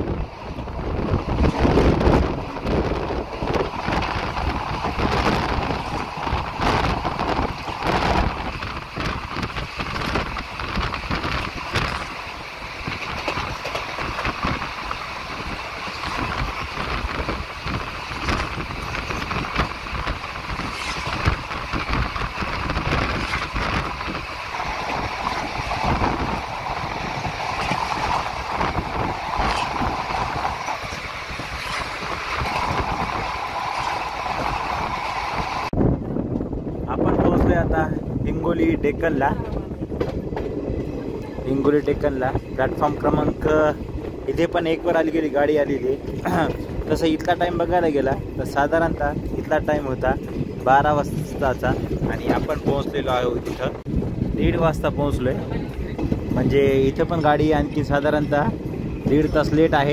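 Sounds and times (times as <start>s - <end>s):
train clatter and knocks: 0.0s - 59.9s
train wheels rumbling on rails: 0.0s - 59.9s.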